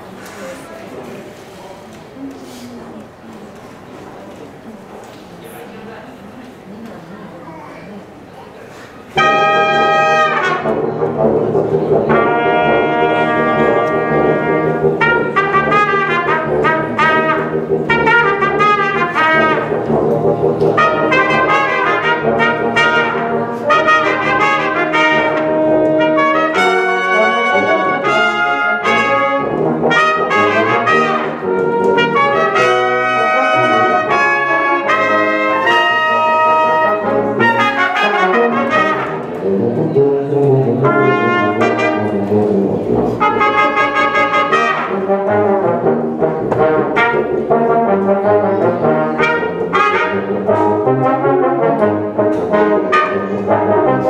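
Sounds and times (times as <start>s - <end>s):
brass ensemble playing: 9.1s - 54.0s.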